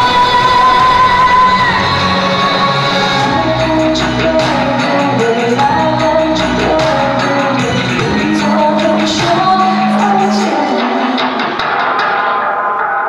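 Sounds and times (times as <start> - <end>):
woman singing into microphone: 0.0 - 11.6
amplified accompaniment with percussion: 0.0 - 13.0.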